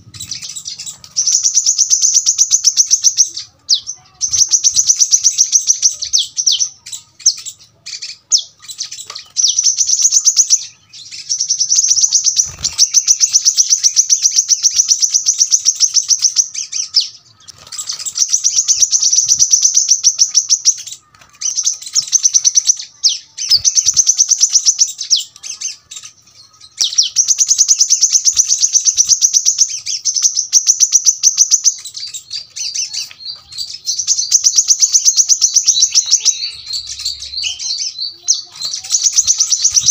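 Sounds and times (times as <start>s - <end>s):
sunbird singing high sharp notes: 0.0s - 39.9s.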